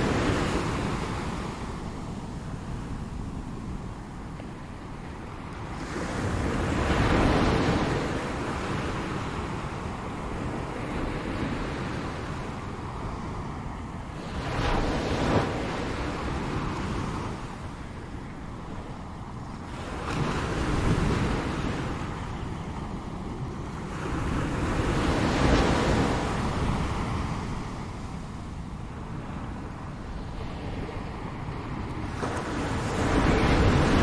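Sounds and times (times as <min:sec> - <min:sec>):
ocean waves breaking: 0:00.0 - 0:34.0
steady wash of surf: 0:00.0 - 0:34.0.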